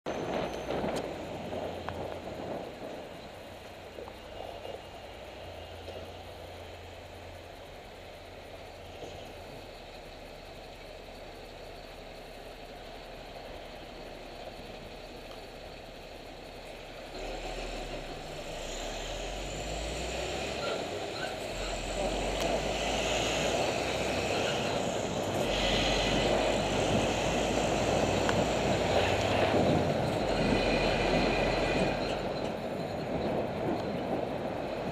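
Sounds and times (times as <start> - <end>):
street traffic: 0.0 - 34.9
diesel engine under load: 0.1 - 34.9.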